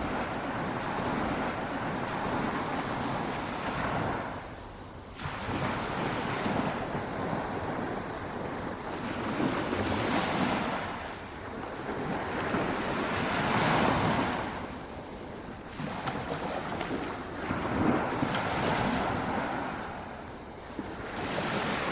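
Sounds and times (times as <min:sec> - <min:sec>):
waves washing up a beach: 0:00.0 - 0:21.9.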